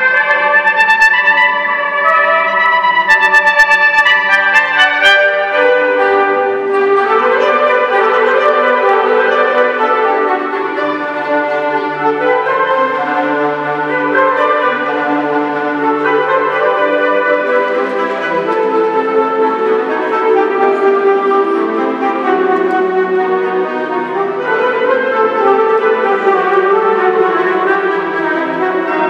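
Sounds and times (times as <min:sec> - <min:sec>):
wind band sustained chords: 0:00.0 - 0:29.0.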